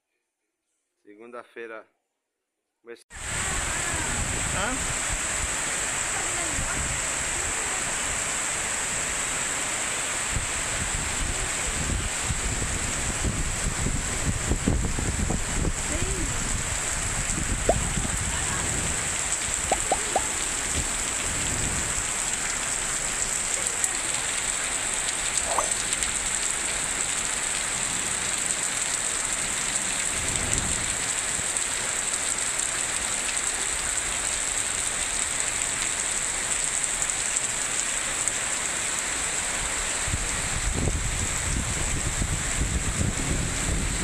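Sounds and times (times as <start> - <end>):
heavy rain falling: 3.2 - 44.0.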